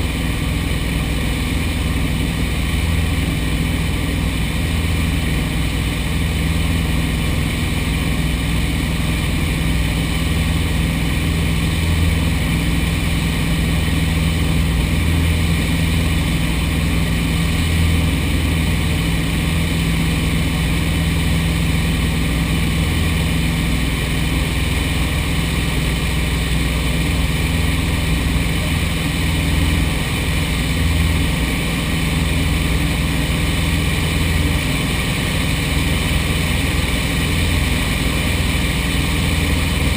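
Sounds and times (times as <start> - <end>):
airplane propeller engine drone: 0.0 - 39.9.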